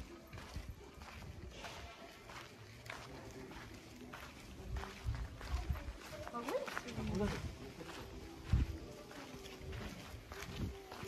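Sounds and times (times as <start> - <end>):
footsteps on pavement: 0.0 - 11.0.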